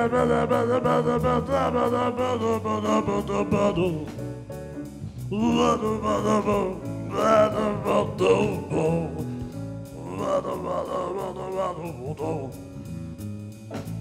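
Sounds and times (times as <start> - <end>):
man singing into a microphone: 0.0 - 4.2, 5.3 - 12.6
backing music with a steady beat: 1.2 - 14.0.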